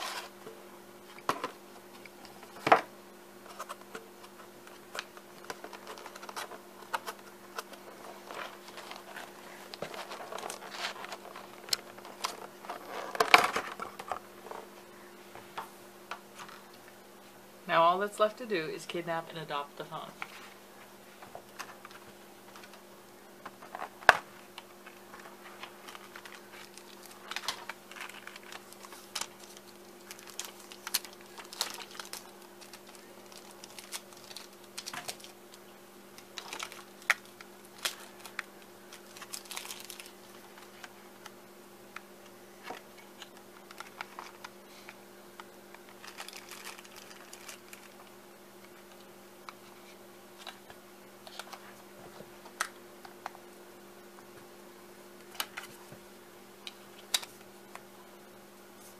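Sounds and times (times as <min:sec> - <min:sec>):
steady low hum: 0:00.0 - 0:58.9
phone packaging clicks and rustles: 0:01.0 - 0:16.8, 0:20.0 - 0:53.4, 0:55.2 - 0:55.9.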